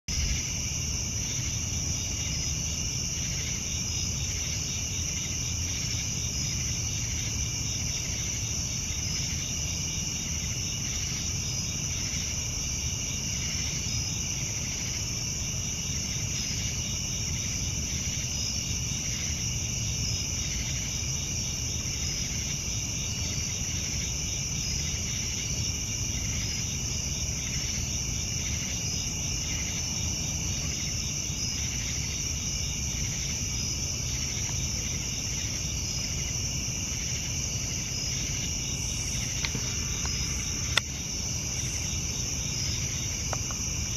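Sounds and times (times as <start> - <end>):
insects trilling: 0.1 - 43.9.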